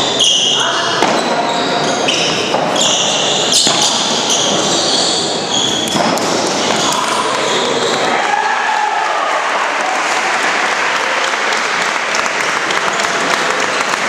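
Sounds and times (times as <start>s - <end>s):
loud indoor din: 0.0s - 14.0s.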